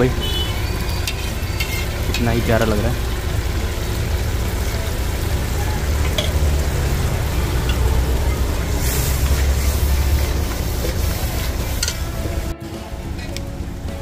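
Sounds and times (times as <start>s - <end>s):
loud hiss: 0.0s - 14.0s
food sizzling in a pan: 0.2s - 12.5s.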